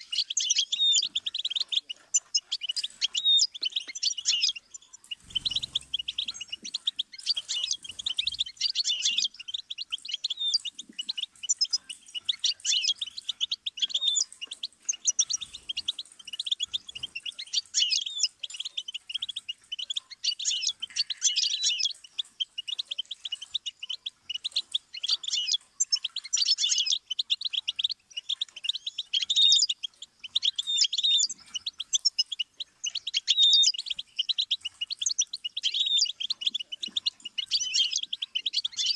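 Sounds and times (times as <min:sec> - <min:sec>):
goldfinch singing: 0:00.0 - 0:38.9.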